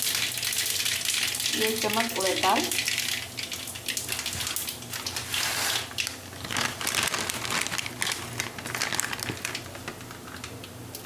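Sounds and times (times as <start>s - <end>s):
spices crackling in hot oil: 0.0s - 11.0s.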